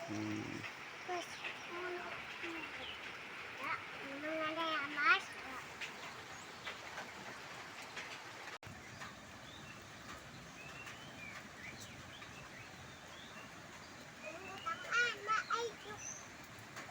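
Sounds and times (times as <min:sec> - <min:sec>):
faint outdoor hiss: 0:00.0 - 0:16.9.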